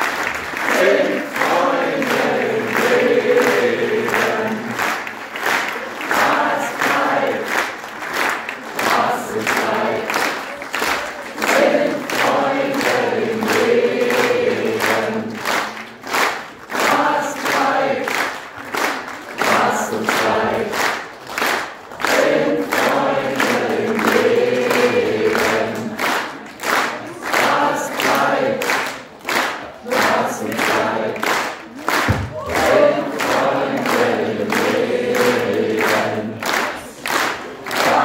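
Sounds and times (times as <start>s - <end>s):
crowd singing along: 0.0s - 5.2s, 5.8s - 10.6s, 11.2s - 15.9s, 16.5s - 18.5s, 19.2s - 21.1s, 22.0s - 38.0s
rhythmic clapping: 0.0s - 38.0s.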